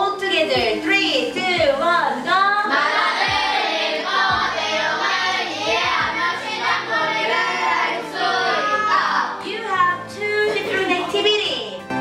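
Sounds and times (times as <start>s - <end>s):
music with singing voices: 0.0s - 12.0s.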